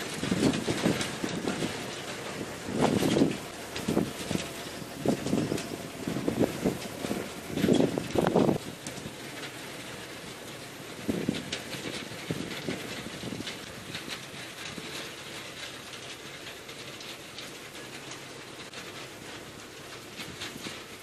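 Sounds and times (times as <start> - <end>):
implement clattering and rattling: 0.0 - 21.0
tractor running: 0.0 - 21.0.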